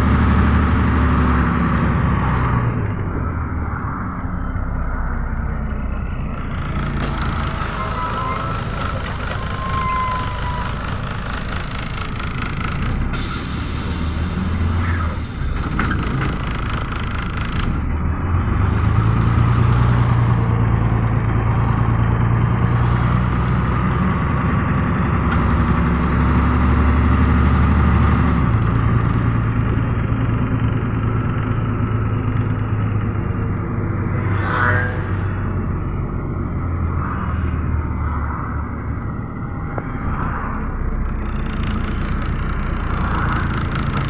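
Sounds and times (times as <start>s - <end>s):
bus diesel engine running: 0.0s - 38.0s, 38.6s - 44.0s.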